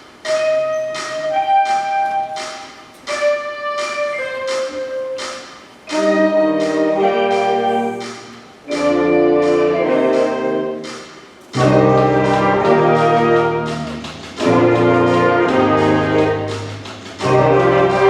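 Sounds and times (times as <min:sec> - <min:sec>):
brass chords: 0:00.2 - 0:18.0.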